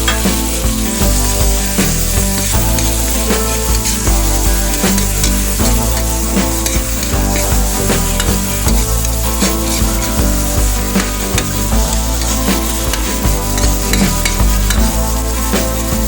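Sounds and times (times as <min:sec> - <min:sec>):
spatula scraping a pan: 0:00.0 - 0:15.9
garlic and onion sizzling in oil: 0:00.0 - 0:16.0.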